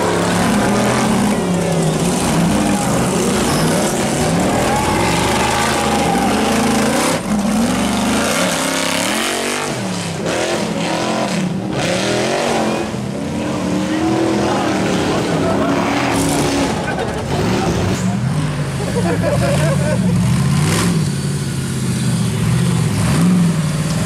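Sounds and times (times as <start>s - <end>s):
buggy engines revving: 0.0s - 24.0s.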